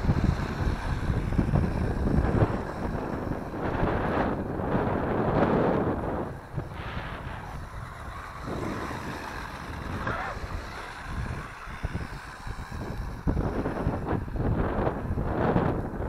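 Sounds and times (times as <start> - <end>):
small electric toy car whirring: 0.0 - 16.0
wind buffeting microphone: 0.0 - 16.0.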